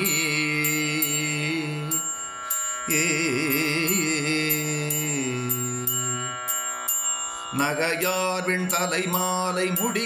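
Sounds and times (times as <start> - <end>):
metallic chime strokes: 0.0 - 10.0.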